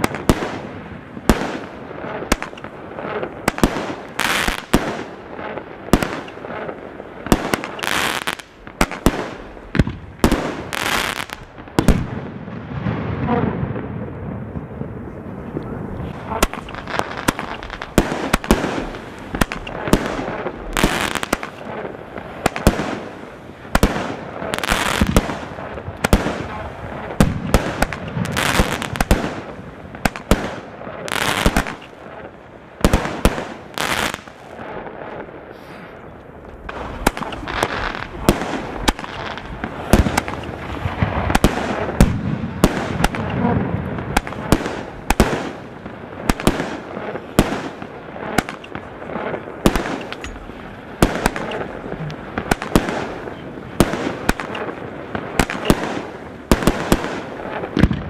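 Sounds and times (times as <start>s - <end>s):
firework shots bursting: 0.0s - 13.8s, 16.1s - 32.1s, 32.8s - 34.7s, 36.6s - 58.0s.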